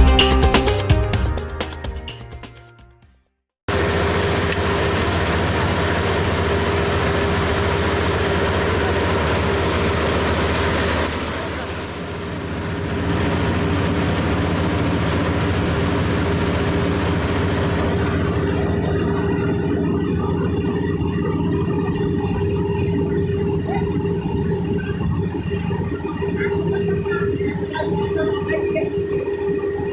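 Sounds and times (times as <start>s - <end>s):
combine harvester engine hum: 3.7s - 29.9s.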